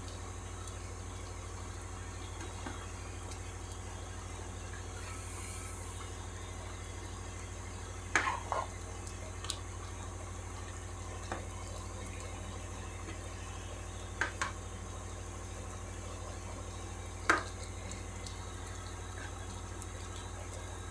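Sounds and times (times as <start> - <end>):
broth simmering: 0.0 - 20.9
low hum: 0.0 - 20.9.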